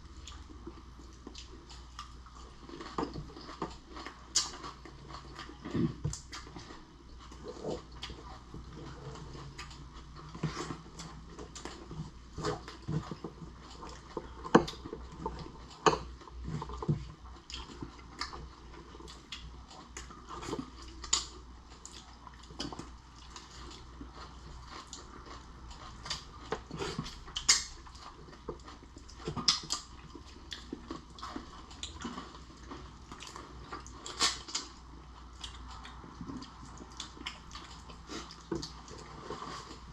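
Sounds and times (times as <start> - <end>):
chewing and mouth smacks: 0.0 - 39.9.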